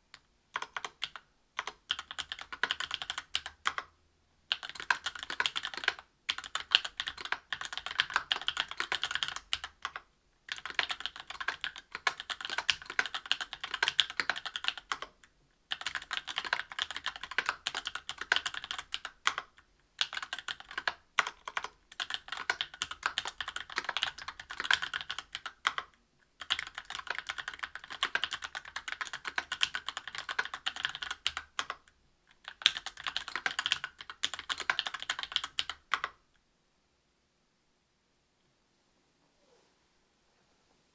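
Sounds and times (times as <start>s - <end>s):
typing on mechanical keyboard: 0.5s - 3.9s, 4.5s - 36.2s.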